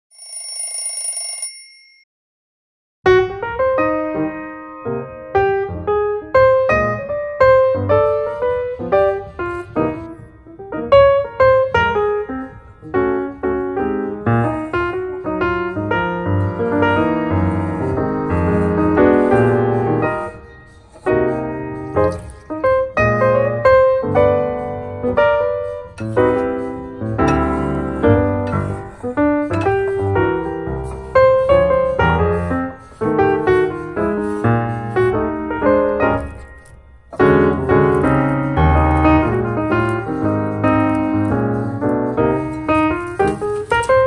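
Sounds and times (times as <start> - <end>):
piano music: 3.1 - 44.0.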